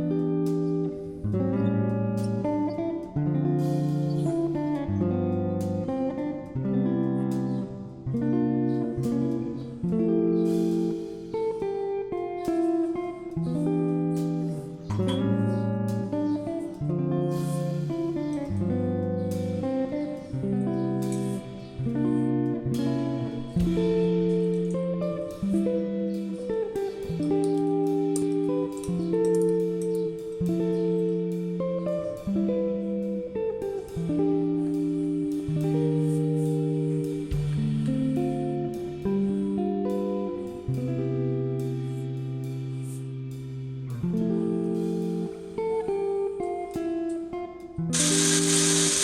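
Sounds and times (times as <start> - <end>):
acoustic guitar instrumental: 0.0 - 49.0.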